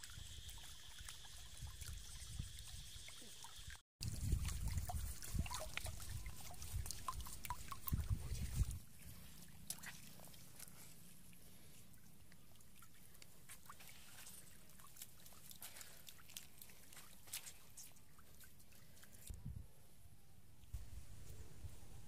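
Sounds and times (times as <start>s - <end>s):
fish splashing in shallow water: 0.0s - 19.3s.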